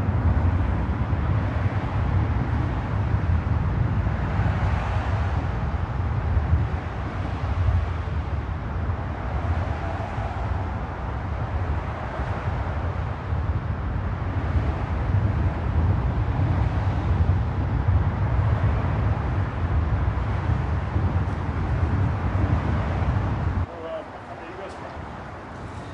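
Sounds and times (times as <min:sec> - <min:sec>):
low rumble of road traffic: 0:00.0 - 0:25.9.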